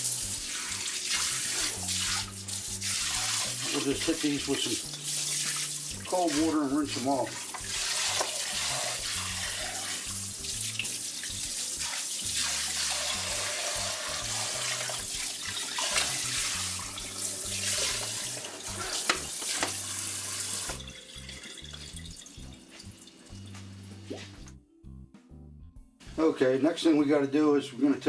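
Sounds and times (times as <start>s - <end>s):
sink sprayer running water: 0.0s - 22.5s.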